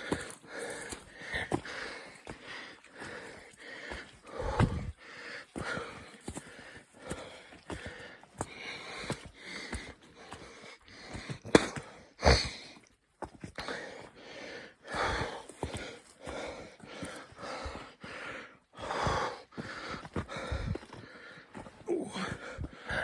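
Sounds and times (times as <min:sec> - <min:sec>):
footsteps crunching on loose rock: 0:00.0 - 0:04.9, 0:05.6 - 0:12.6, 0:14.9 - 0:18.2, 0:18.8 - 0:23.0
person breathing hard: 0:00.0 - 0:12.8, 0:13.6 - 0:23.0.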